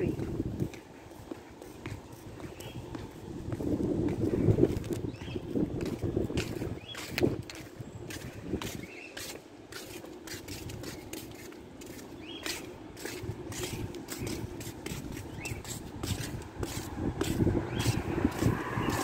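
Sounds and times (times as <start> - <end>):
footsteps on pavement: 0.0 - 19.0
street traffic hum: 0.0 - 19.0.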